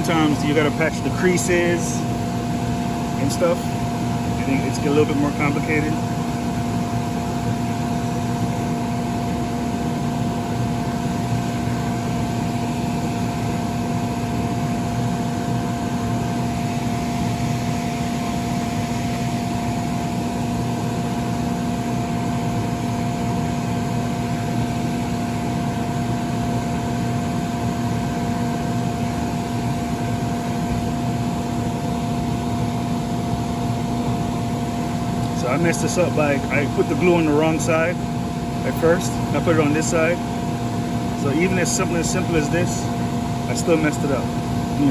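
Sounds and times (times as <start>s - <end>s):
electric blower motor drone: 0.0s - 44.9s.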